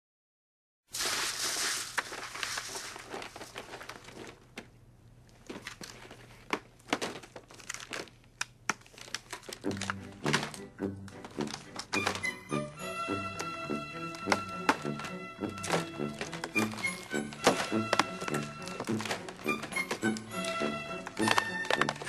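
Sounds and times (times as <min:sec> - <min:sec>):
paper gift bag rustling: 0:00.9 - 0:04.7, 0:05.4 - 0:08.2, 0:08.8 - 0:22.0
plastic packaging clicking: 0:01.9 - 0:22.0.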